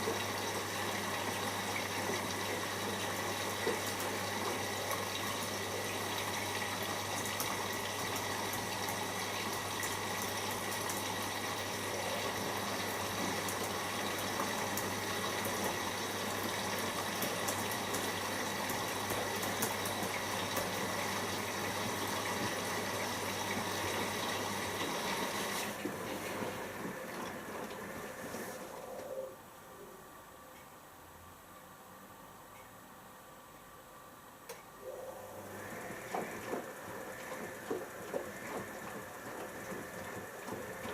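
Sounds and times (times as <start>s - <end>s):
water rushing into washing machine: 0.0s - 29.2s, 34.8s - 40.9s
low mains hum: 0.0s - 40.9s.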